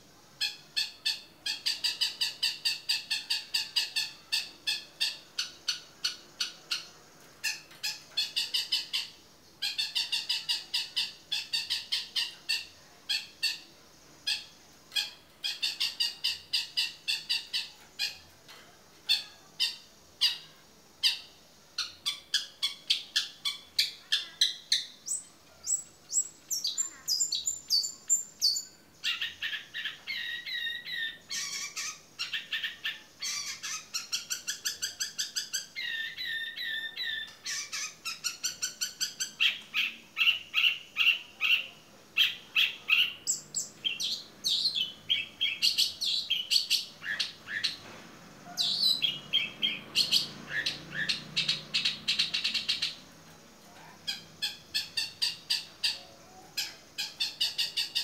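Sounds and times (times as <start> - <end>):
shrike singing chirps and trills: 0.0 - 58.0.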